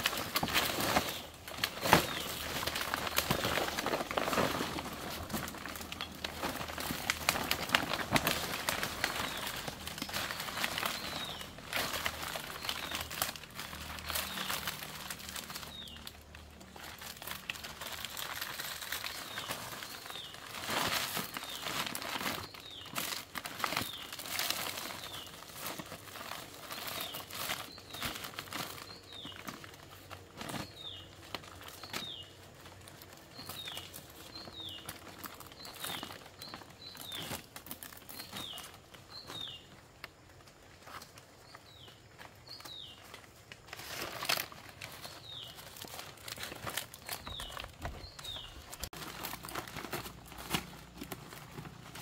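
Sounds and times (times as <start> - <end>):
stiff leaves rustling and crinkling: 0.0 - 52.0.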